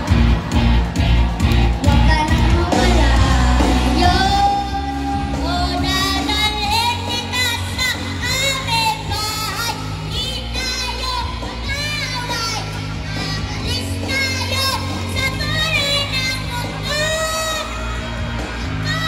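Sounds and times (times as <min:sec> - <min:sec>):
backing music: 0:00.0 - 0:19.0
heavy bass beat: 0:00.0 - 0:19.0
boy singing into a microphone: 0:01.9 - 0:17.7.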